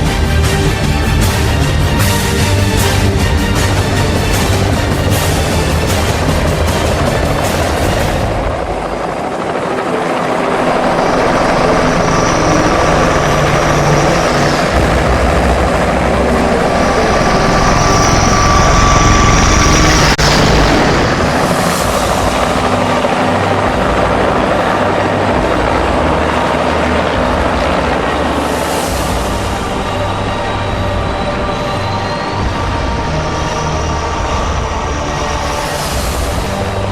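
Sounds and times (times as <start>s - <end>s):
helicopter rotor and engine: 0.0s - 36.9s
thin high whine: 0.0s - 36.9s.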